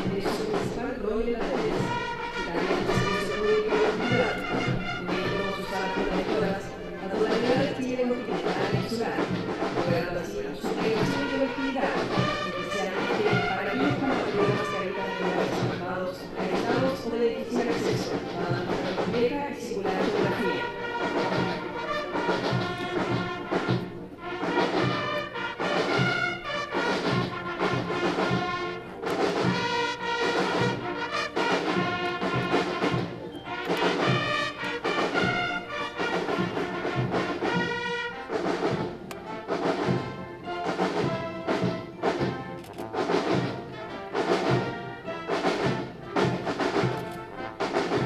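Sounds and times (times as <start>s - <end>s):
brass instruments playing march: 0.0s - 48.0s
steady drum beat: 0.0s - 48.0s.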